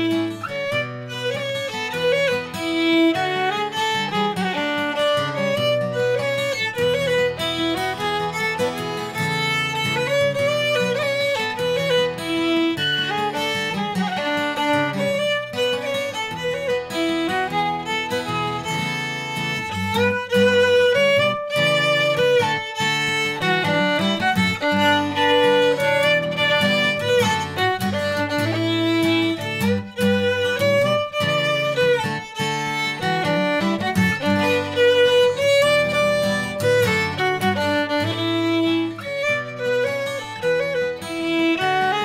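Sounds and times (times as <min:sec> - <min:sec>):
acoustic guitar chords: 0:00.0 - 0:42.0
fiddle tune on violin: 0:00.0 - 0:42.0.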